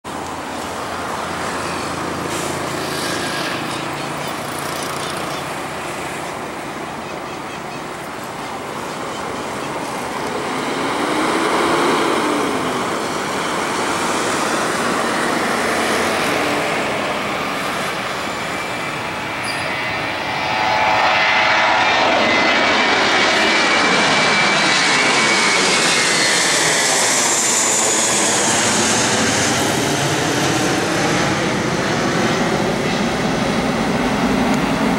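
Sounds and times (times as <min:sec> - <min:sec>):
jet engines at takeoff thrust: 0:00.0 - 0:34.9.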